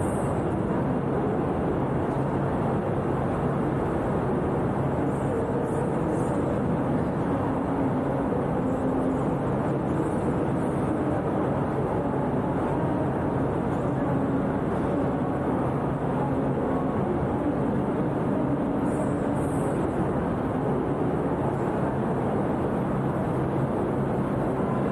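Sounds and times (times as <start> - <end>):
background noise: 0.0 - 24.9.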